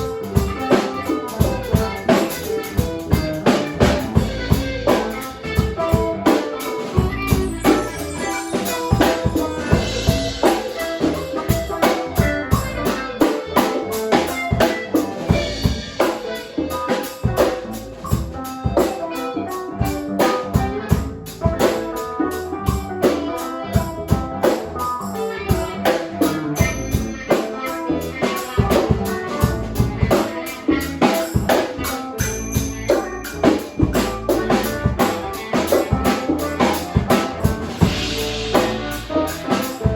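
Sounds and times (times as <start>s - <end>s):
music with drum beat: 0.0s - 39.9s.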